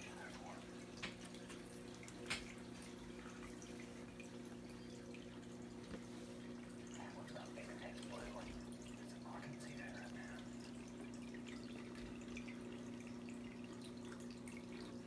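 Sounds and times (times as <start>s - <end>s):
aquarium water trickling: 0.0s - 15.0s
steady low hum: 0.0s - 15.0s.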